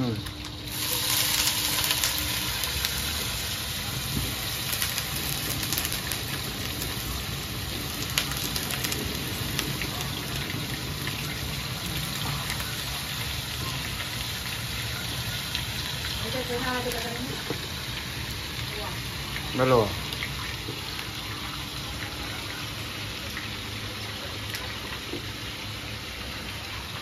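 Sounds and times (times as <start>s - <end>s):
vegetables sizzling in a wok: 0.0s - 27.0s.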